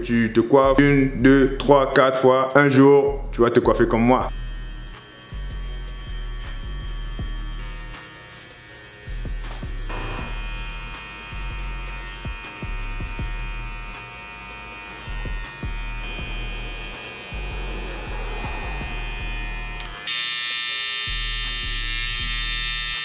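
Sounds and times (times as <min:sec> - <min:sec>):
electric hair clippers buzzing: 0:04.3 - 0:23.0.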